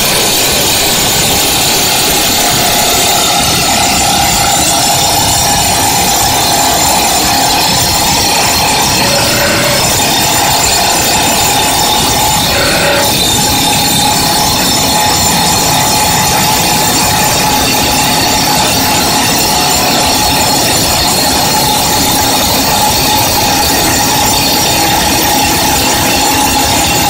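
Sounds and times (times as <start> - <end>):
high whine: 0.0 - 27.0
hydraulic rock drill hammering: 0.0 - 27.0.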